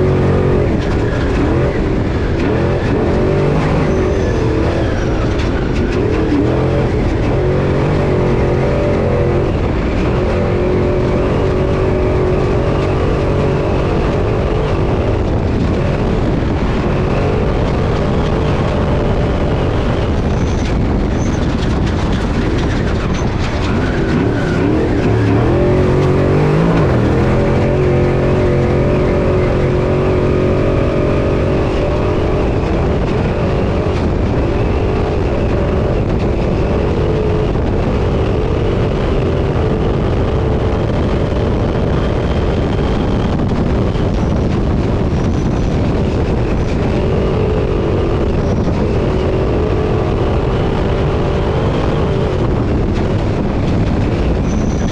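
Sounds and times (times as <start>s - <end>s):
chassis and tyres rumbling: 0.0s - 54.9s
truck engine revving: 0.0s - 54.9s.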